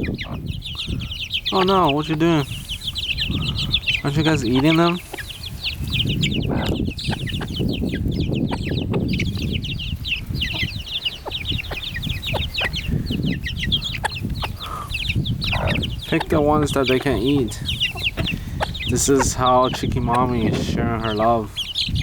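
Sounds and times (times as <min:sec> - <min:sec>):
baby chicks peeping: 0:00.0 - 0:22.0
hen clucking: 0:00.0 - 0:22.0.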